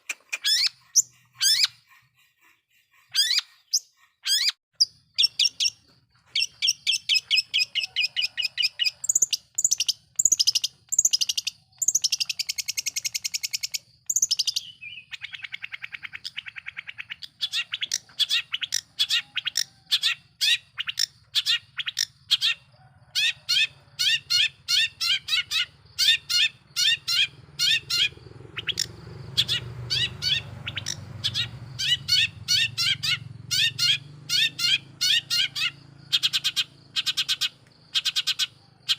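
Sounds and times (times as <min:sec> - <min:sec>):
bird singing sharp high chirps: 0:00.0 - 0:02.1, 0:03.1 - 0:22.6, 0:23.3 - 0:38.9.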